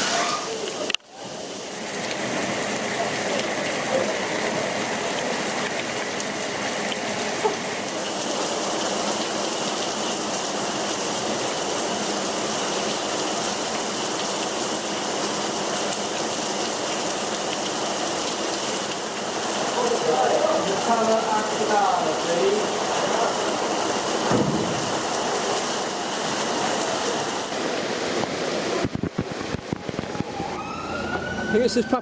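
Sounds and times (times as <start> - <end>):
torrential rain pouring: 0.0 - 32.0.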